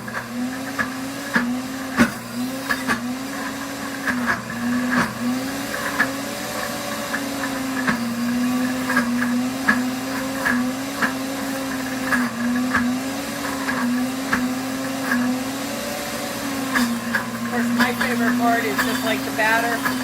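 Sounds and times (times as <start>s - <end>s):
blender motor grinding: 0.0s - 20.0s.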